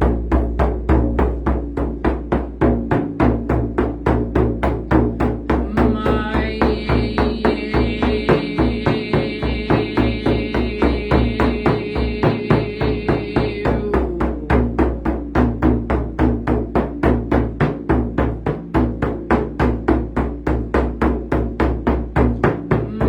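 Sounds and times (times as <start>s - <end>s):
deep steady drumbeat: 0.0s - 23.0s.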